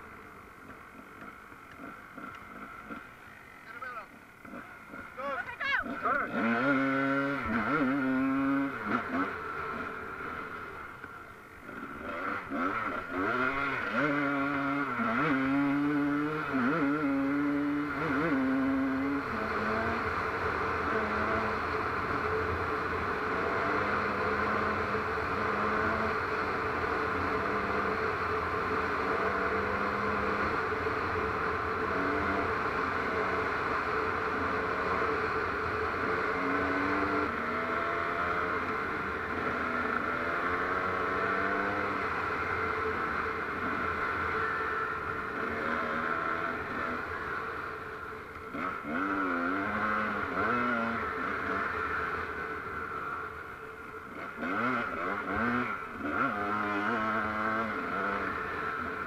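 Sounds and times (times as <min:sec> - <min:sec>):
constant rushing noise: 0:00.0 - 0:59.0
off-road vehicle engine revving: 0:00.7 - 0:59.0.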